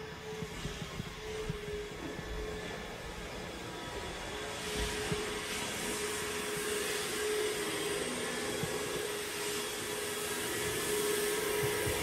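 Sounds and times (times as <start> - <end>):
robot vacuum cleaner humming: 0.0 - 12.0.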